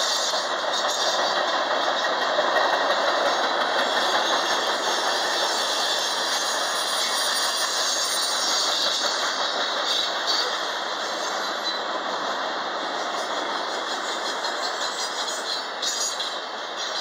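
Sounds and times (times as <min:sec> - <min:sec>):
freight train wheels on rails: 0:00.0 - 0:17.0.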